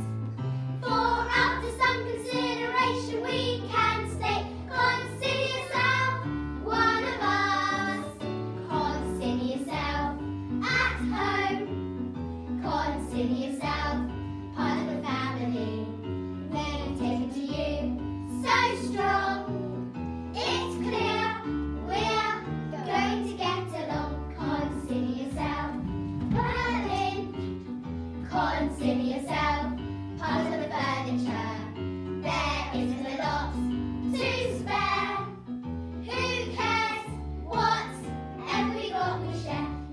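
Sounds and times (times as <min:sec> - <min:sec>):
instrumental backing with bass: 0:00.0 - 0:39.9.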